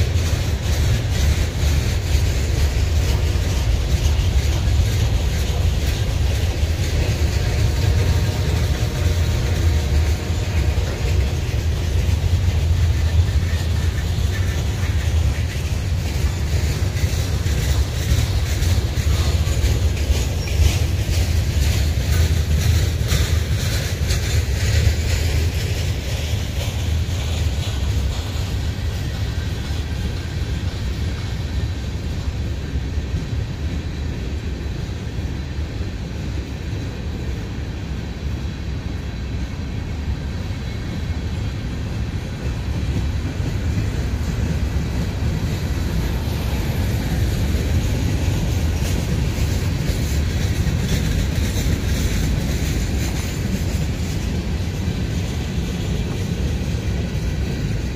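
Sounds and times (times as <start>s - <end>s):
wheels clicking over track: 0.0s - 32.3s, 40.5s - 57.9s
steel wheels rumbling on rail: 0.0s - 57.9s.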